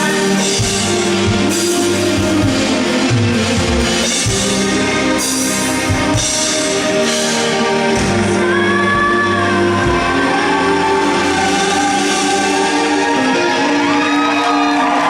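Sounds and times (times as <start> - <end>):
drums: 0.0 - 15.0
guitar: 0.0 - 15.0
live rock band playing: 0.0 - 15.0
person singing: 0.0 - 15.0.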